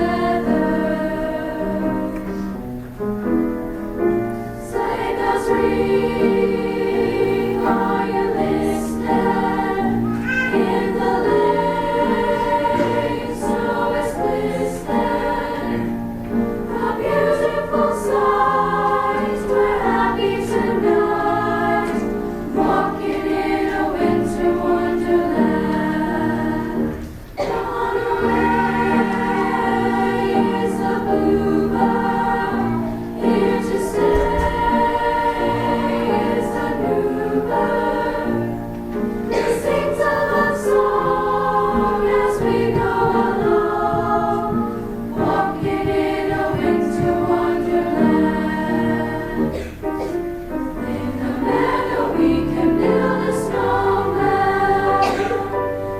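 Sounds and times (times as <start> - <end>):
women's choir singing: 0.0 - 55.9.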